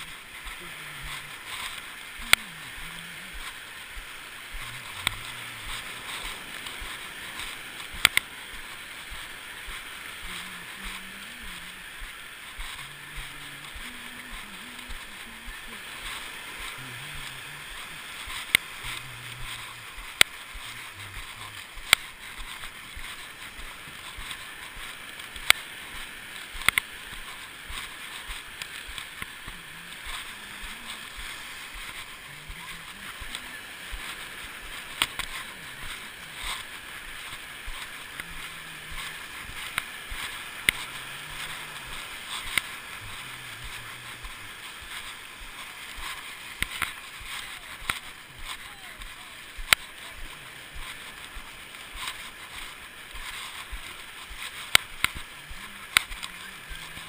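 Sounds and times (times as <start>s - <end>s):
surf hissing on the beach: 0.0s - 57.0s.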